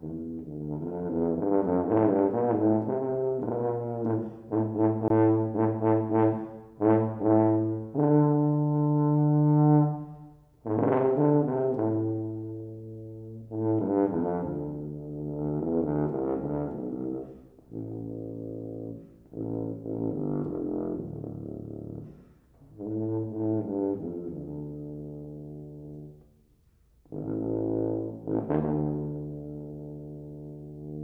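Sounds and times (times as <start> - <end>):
solo tuba playing low notes: 0.0 - 31.0.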